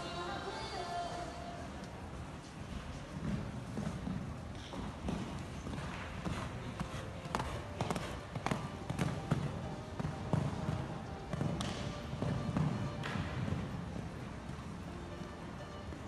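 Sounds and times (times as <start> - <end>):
horse hooves cantering on sand: 2.2 - 16.0.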